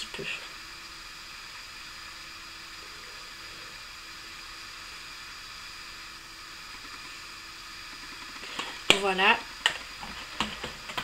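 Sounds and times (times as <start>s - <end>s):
faint even hum: 0.0s - 11.0s.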